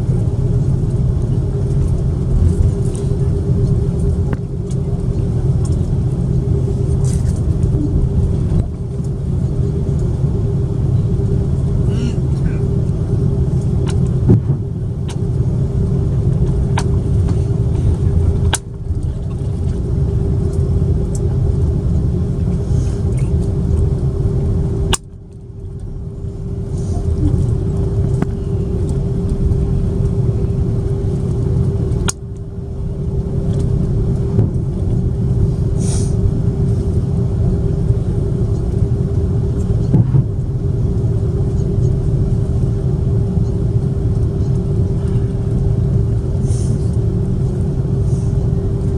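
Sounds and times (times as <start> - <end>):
aircraft cabin rumble: 0.0 - 48.9.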